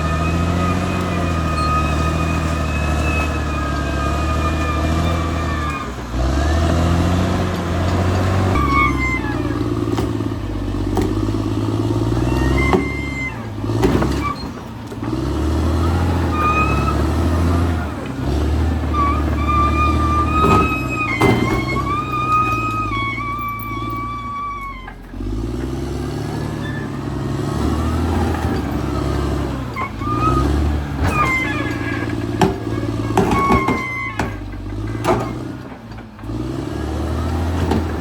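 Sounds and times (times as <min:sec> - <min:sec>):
bulldozer diesel engine: 0:00.0 - 0:38.0.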